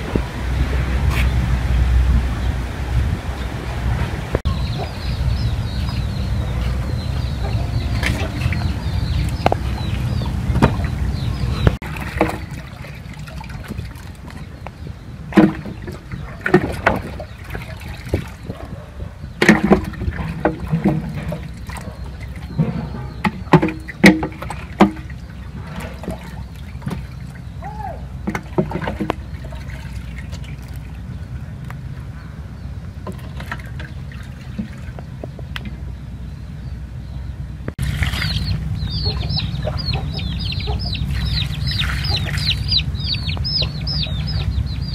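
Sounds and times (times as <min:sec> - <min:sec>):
steady low rumble: 0:00.0 - 0:23.5, 0:29.0 - 0:44.9
water splashing and sloshing: 0:00.0 - 0:44.9.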